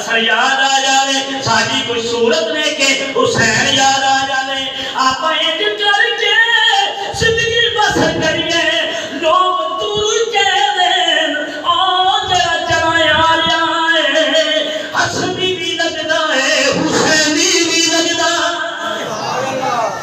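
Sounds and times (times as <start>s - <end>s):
man chanting devotional recitation: 0.0s - 19.9s.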